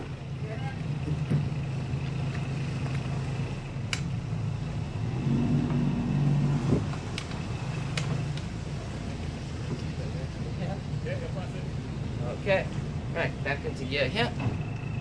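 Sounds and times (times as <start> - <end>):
boat diesel engines humming: 0.0 - 15.0.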